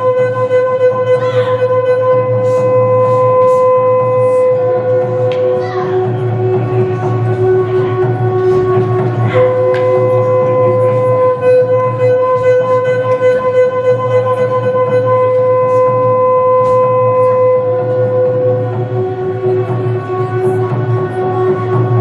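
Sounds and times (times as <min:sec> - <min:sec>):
wind instrument long note: 0:00.0 - 0:22.0.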